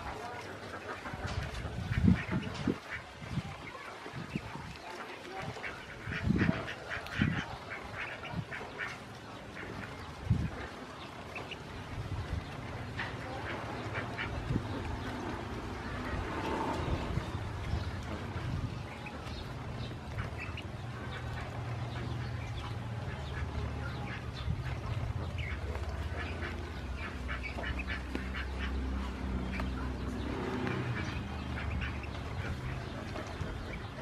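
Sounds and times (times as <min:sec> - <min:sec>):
ducklings peeping: 0:00.0 - 0:34.0
steady low rumble: 0:05.8 - 0:34.0.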